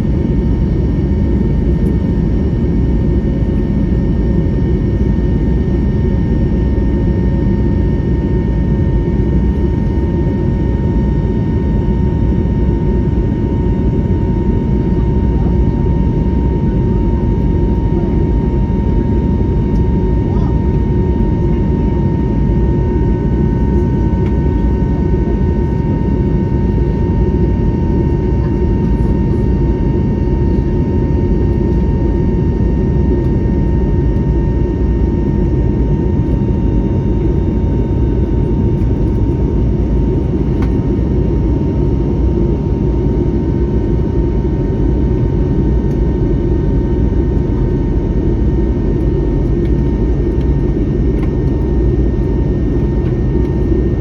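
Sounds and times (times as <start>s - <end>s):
jet cabin roar: 0.0s - 54.0s.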